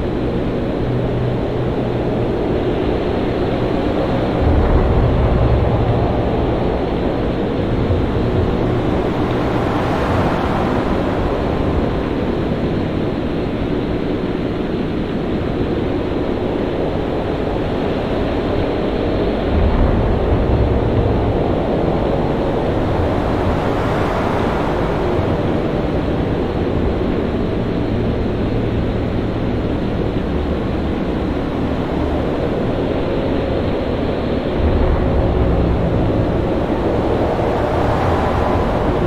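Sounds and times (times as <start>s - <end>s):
waves crashing: 0.0s - 16.3s, 16.9s - 39.0s
steady wind: 0.0s - 39.0s.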